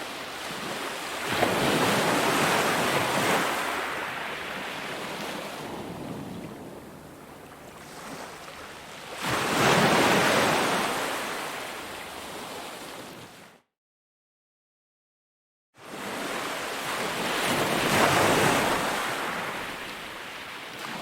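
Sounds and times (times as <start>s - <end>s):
ocean surf washing: 0.0s - 13.2s, 15.9s - 21.0s.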